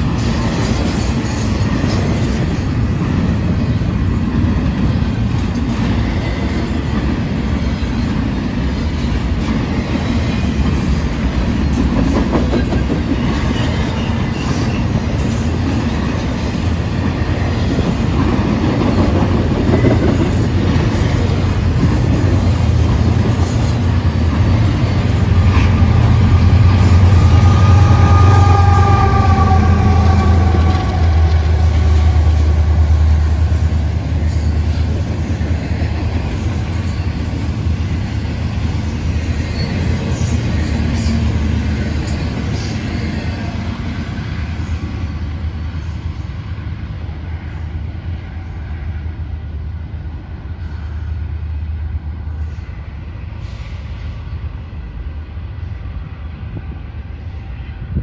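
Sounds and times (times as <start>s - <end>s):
diesel locomotive high whine: 0.0s - 58.0s
train wheels rumbling on rail: 0.0s - 58.0s.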